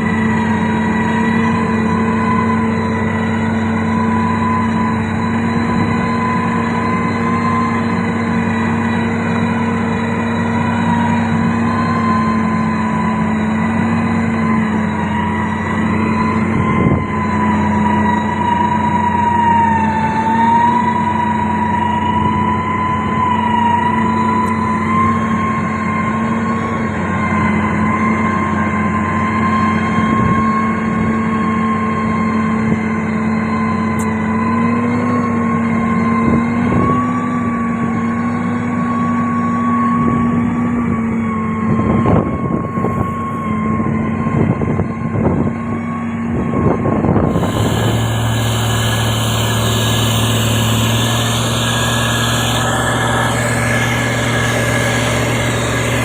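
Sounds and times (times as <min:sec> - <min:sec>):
diesel engine running: 0:00.0 - 0:44.5, 0:45.6 - 0:56.0.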